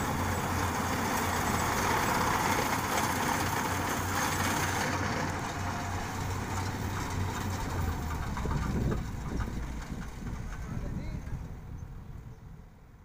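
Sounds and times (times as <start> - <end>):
combine harvester engine and machinery: 0.0 - 13.0.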